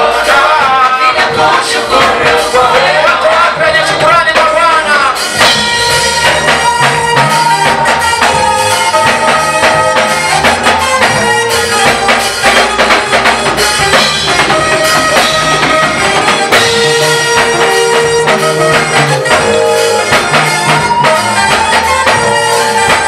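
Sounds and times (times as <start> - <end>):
drums steady beat: 0.0 - 23.0
long held lead notes: 0.0 - 23.0.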